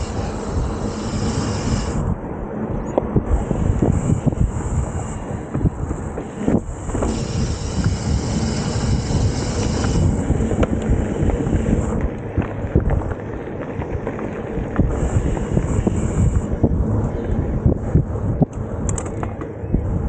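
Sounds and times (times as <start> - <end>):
tyres rumbling over dirt: 0.0 - 18.3
bike clicks and rattles: 0.0 - 20.0
wind buffeting microphone: 0.0 - 20.0.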